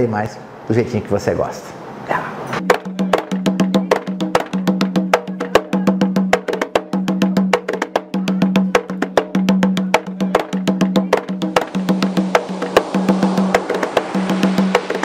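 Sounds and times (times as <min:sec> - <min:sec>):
sharp percussion beat: 0:02.6 - 0:15.0.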